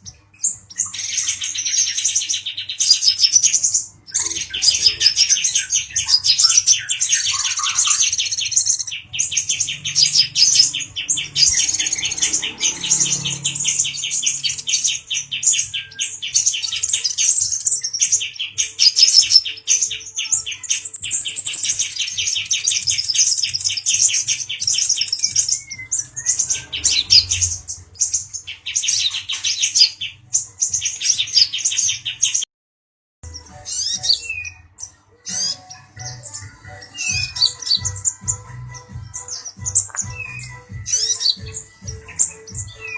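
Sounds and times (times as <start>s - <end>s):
bird singing fast trills: 0.0s - 32.4s, 33.3s - 42.9s.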